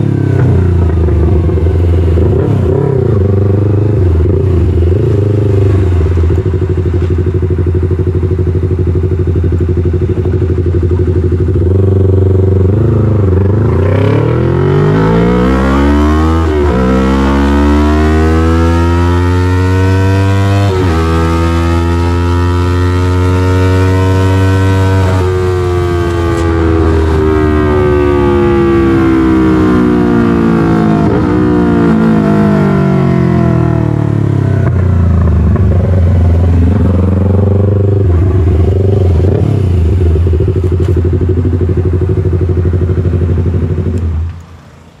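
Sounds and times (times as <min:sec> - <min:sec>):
motorcycle engine revving and idling: 0:00.0 - 0:45.0.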